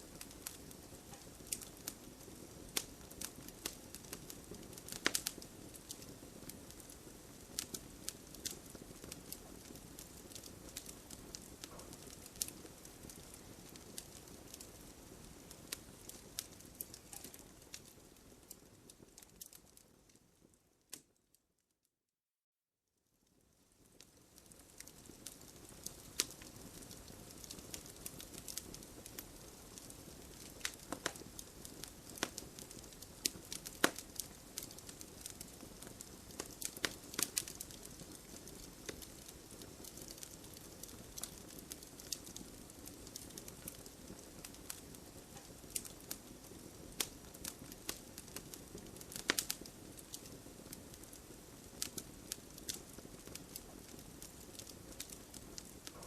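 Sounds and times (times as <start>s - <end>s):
wood fire crackling and popping: 0.0s - 21.2s, 23.3s - 56.0s.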